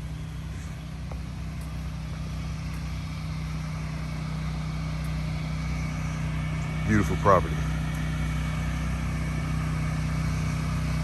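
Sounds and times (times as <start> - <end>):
pressure washer engine droning: 0.0 - 11.0.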